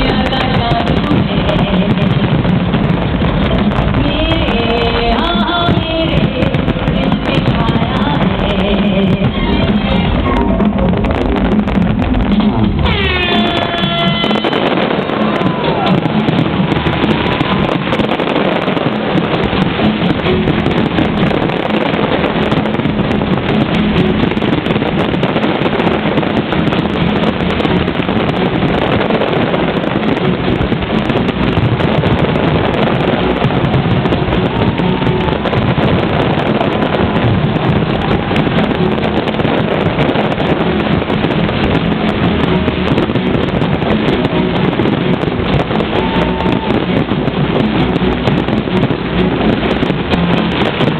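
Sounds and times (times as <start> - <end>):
fireworks rumbling and crackling: 0.0 - 50.9.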